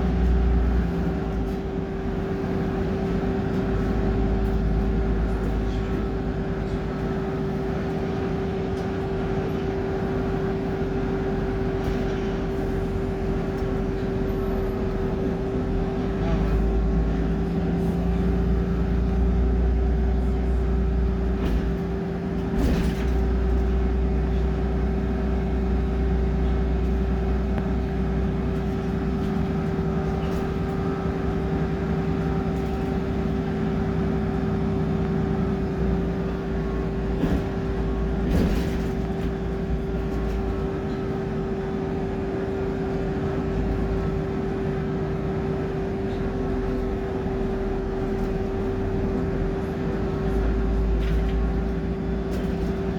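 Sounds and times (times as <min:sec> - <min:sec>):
bus diesel engine drone: 0:00.0 - 0:52.9.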